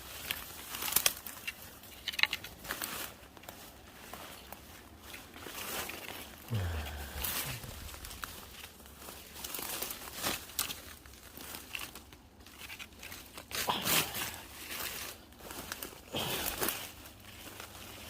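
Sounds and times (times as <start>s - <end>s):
dry brush and leaves crackling: 0.0s - 18.0s.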